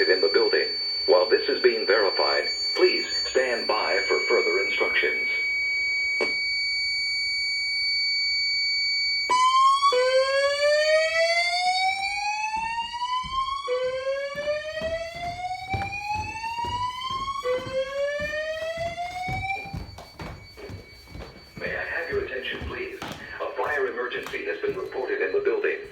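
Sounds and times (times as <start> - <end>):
fire alarm steady high tone: 0.0 - 25.9
fire alarm whoop sweeps: 0.0 - 25.9.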